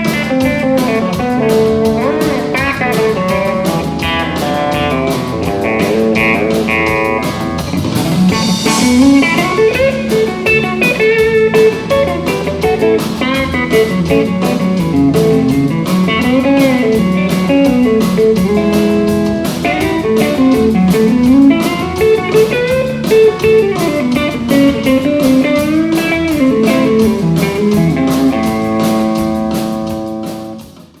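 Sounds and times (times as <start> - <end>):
pedal steel guitar sliding melody: 0.0 - 29.4
steady beat: 0.0 - 31.0.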